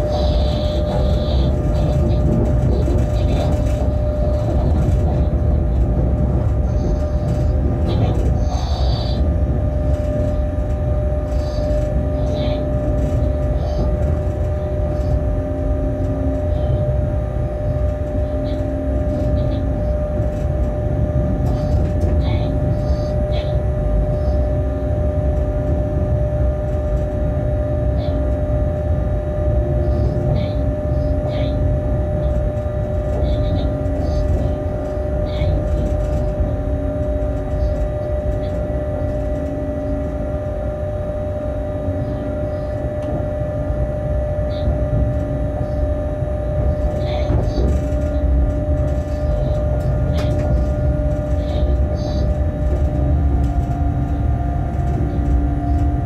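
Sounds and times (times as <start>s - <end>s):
electrical whine: 0.0s - 56.0s
low running gear rumble: 0.0s - 56.0s
short humming tones: 0.0s - 56.0s.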